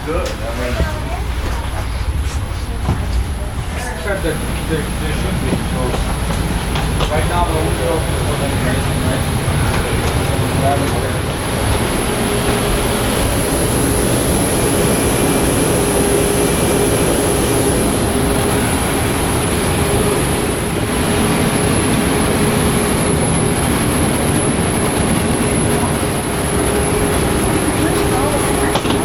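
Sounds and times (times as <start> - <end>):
airliner ground machinery drone: 0.0 - 29.0.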